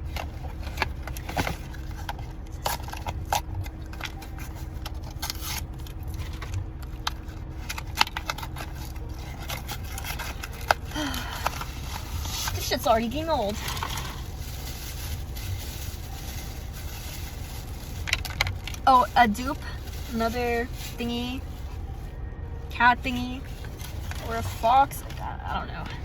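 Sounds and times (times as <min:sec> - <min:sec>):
plastic packaging being opened: 0:00.0 - 0:22.0, 0:23.1 - 0:26.0
steady low hum: 0:00.0 - 0:26.0.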